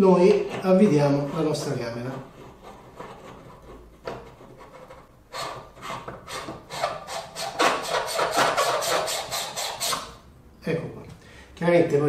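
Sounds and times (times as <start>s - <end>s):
threads rasping while screwing: 0.2s - 10.2s.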